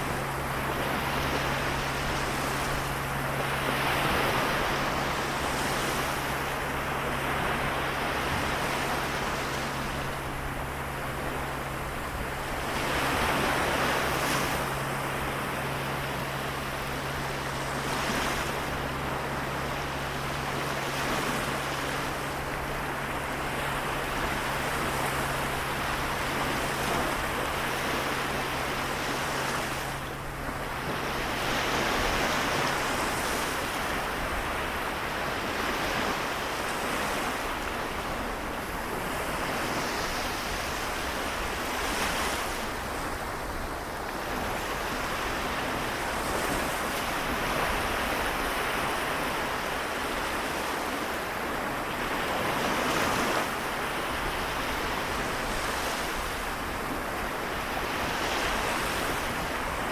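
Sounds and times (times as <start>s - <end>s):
small waves washing on shore: 0.0s - 59.9s.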